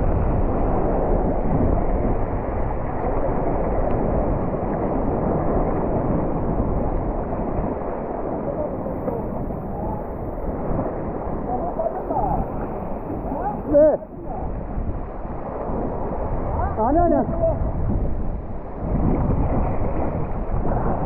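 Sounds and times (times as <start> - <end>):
waves washing: 0.0 - 21.0
wind buffeting microphone: 0.0 - 21.0.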